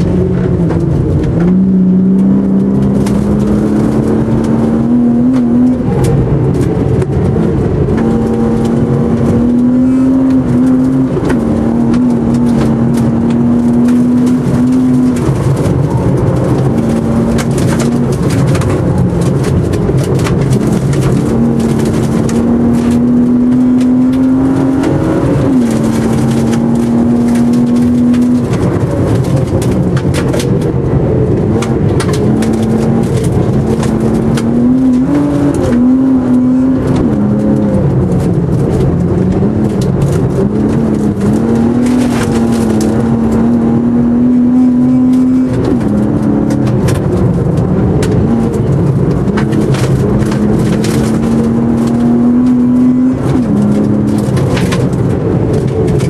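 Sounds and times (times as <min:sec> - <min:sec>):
race car engine under load: 0:00.0 - 0:56.0
sharp clicks and knocks: 0:00.0 - 0:56.0.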